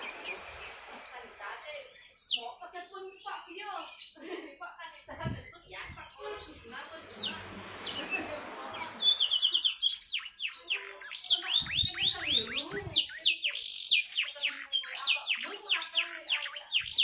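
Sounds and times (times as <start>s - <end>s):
canary singing: 0.0s - 4.3s, 5.2s - 17.0s.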